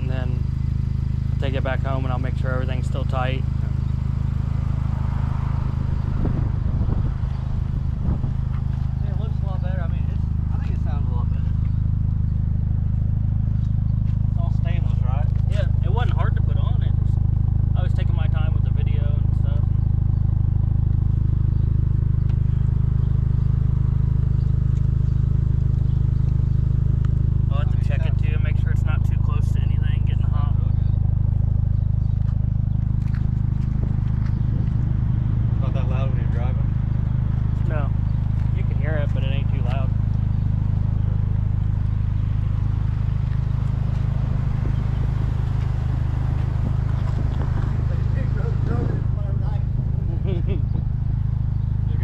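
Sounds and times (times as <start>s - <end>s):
car engine running steadily: 0.0s - 52.0s.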